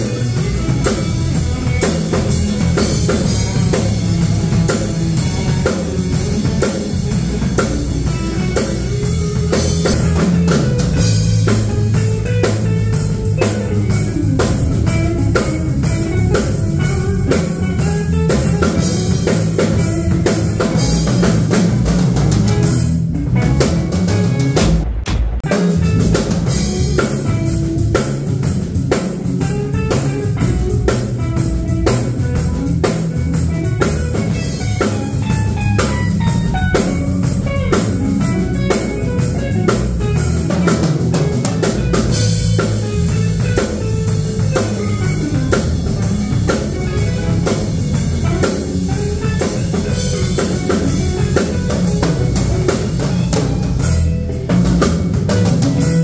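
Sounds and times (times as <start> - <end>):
band jamming: 0.0 - 56.0
drum kit played hard: 0.0 - 56.0.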